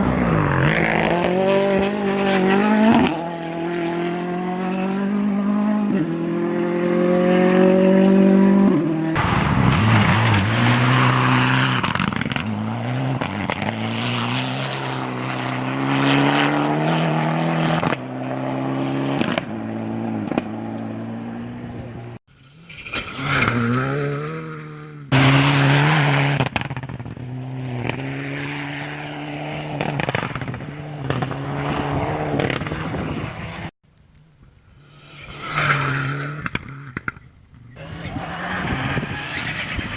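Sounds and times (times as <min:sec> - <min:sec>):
rally car engines revving: 0:00.0 - 0:33.7, 0:34.9 - 0:39.9.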